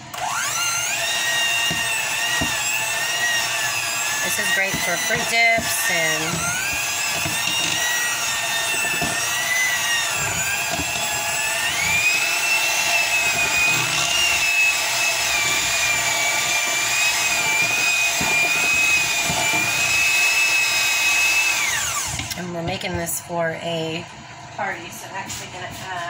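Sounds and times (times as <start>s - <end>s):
electric hand mixer whining: 0.0s - 23.2s.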